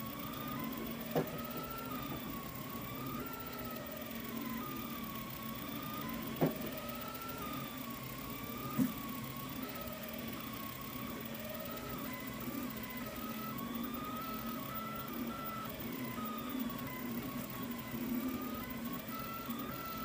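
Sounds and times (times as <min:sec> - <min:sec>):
cooling fan hum: 0:00.0 - 0:20.0
stepper motors whining: 0:00.0 - 0:20.0.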